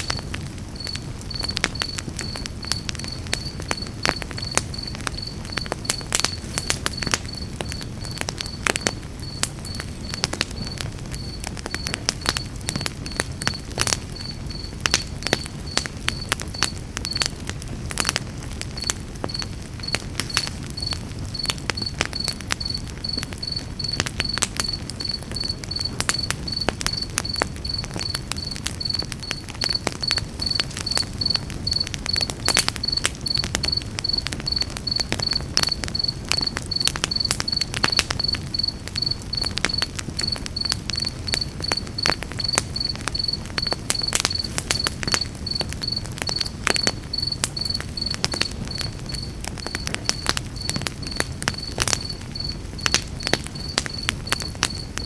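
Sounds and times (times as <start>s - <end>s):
campfire crackling: 0.0s - 55.0s
cricket chirping: 0.0s - 55.0s.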